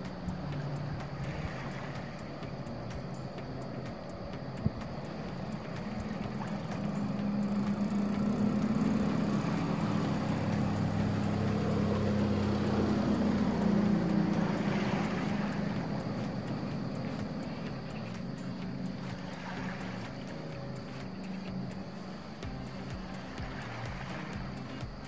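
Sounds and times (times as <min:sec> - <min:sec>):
motorboat engine humming: 0:00.0 - 0:25.0.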